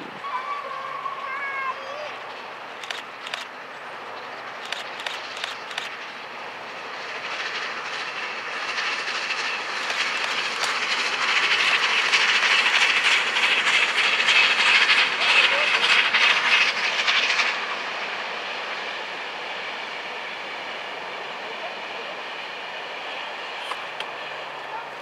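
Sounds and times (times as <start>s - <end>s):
steam train running past: 0.0s - 25.0s.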